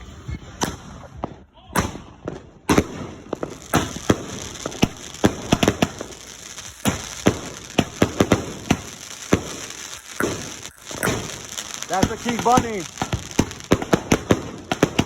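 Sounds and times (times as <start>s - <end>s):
firework bangs: 0.4s - 15.0s
firework crackle: 0.6s - 15.0s.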